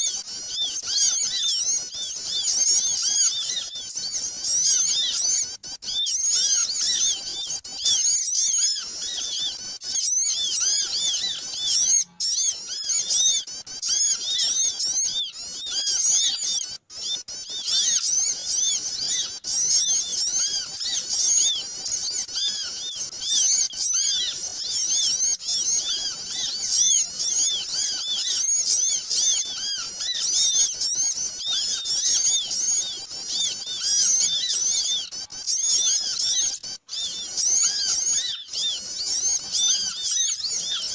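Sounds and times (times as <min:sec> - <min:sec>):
flock of small birds twittering: 0:00.0 - 0:40.9.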